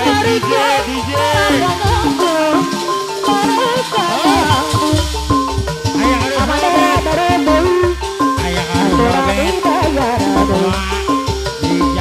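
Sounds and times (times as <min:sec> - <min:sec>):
ornamented gliding melody: 0:00.0 - 0:12.0.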